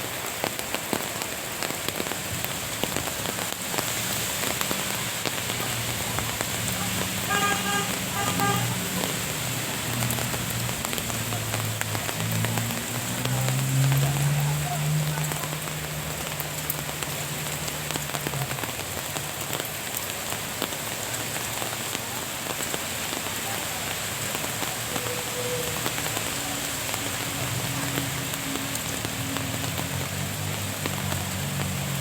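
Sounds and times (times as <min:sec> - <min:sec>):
rain falling on leaves: 0:00.0 - 0:32.0.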